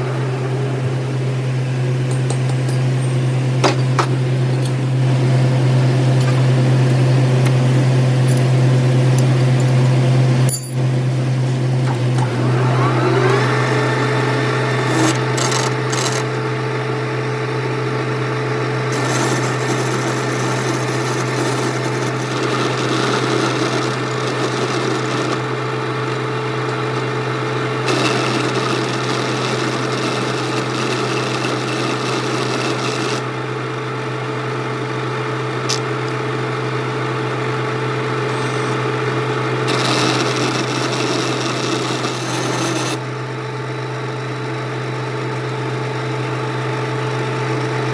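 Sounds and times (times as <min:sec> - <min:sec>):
metal lathe running: 0:00.0 - 0:47.9.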